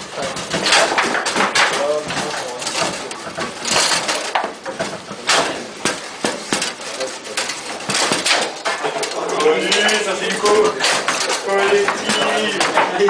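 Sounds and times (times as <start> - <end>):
foosball ball clacking: 0.0 - 13.0
foosball rods sliding and rattling: 0.0 - 13.0.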